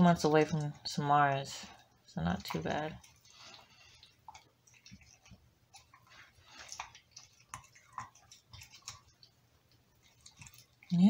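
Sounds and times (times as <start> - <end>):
dog chewing and licking: 0.0 - 11.0.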